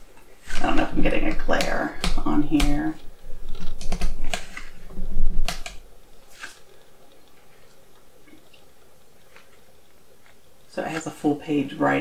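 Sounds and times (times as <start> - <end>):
book pages rustling: 0.1 - 11.2.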